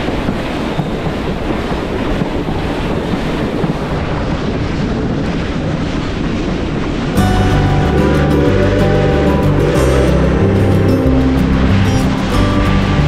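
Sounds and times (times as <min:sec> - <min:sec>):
moving train rumble: 0:00.0 - 0:13.0
wind buffeting microphone: 0:00.0 - 0:13.0.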